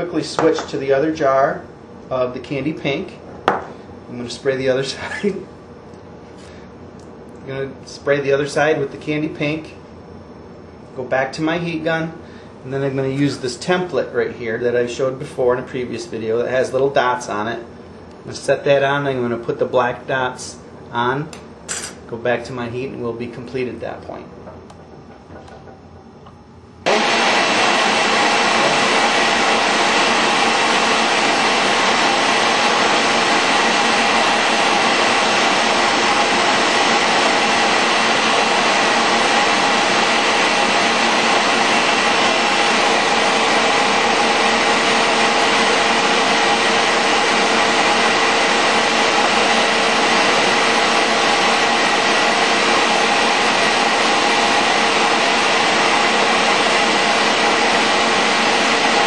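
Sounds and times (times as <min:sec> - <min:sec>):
loud steady mechanical noise: 0:00.0 - 0:59.0.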